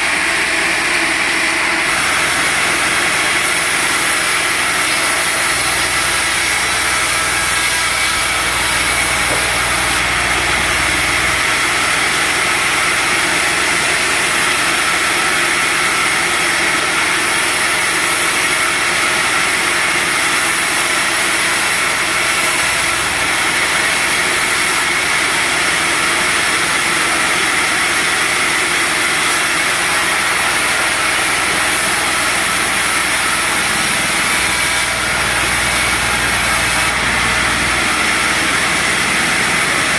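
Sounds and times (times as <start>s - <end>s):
sawmill drone: 0.0s - 39.9s.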